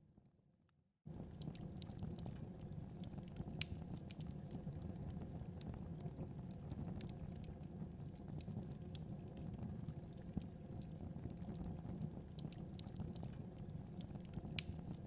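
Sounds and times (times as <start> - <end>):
wood fire crackling and popping: 1.1 - 15.0.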